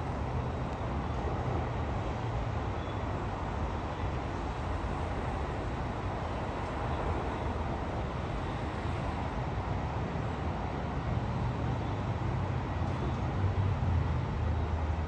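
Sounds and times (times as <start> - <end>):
low rumble of distant vehicles: 0.0 - 15.0.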